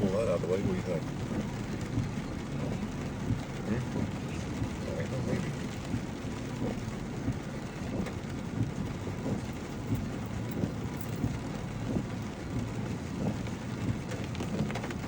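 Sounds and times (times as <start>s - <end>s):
vehicle rumbling inside cab: 0.0s - 15.0s.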